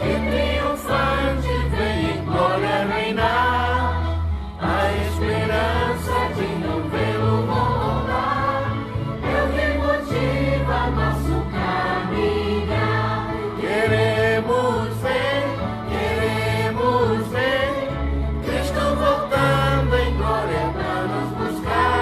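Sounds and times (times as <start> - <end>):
choir singing a hymn: 0.0 - 22.0
recorded backing music: 0.0 - 22.0.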